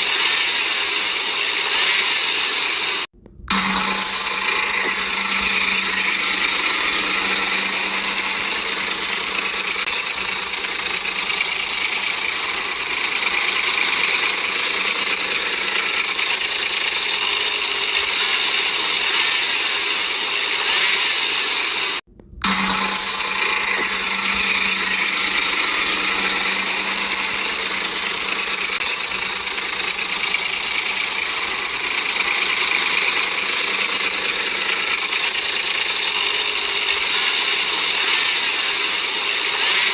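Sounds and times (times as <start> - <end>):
car engine running: 0.0 - 39.9
timing chain rattling and tapping: 0.0 - 39.9.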